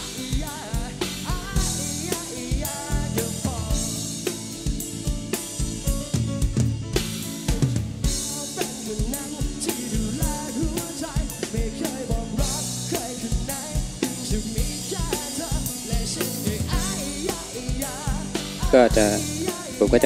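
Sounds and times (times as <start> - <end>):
person singing: 0.0 - 4.6, 8.1 - 20.0
bass: 0.0 - 20.0
drum kit beat: 0.0 - 20.0
keyboards: 0.0 - 20.0.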